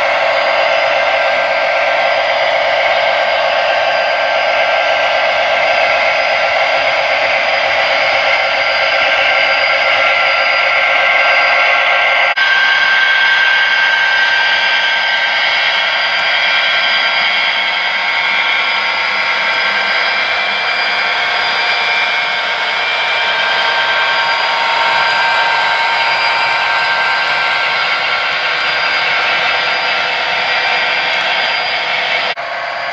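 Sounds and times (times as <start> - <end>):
high whining tones: 0.0 - 32.9.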